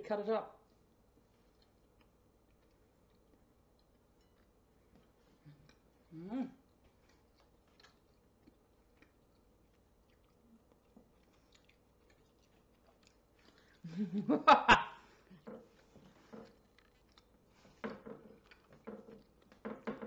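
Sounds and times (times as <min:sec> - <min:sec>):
person chewing candy: 0:00.8 - 0:13.9, 0:15.1 - 0:19.8.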